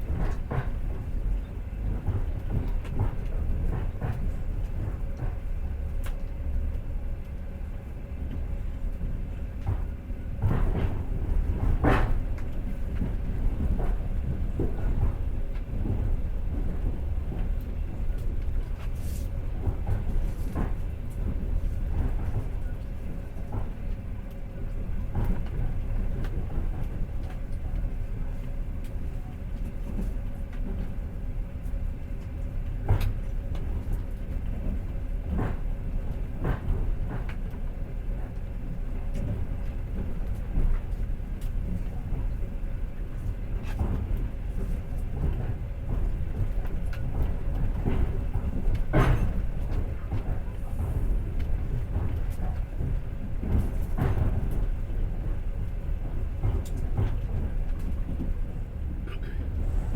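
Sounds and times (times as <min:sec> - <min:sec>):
train clacks and knocks: 0:00.0 - 0:59.9
train wheels rumbling on rails: 0:00.0 - 0:59.9.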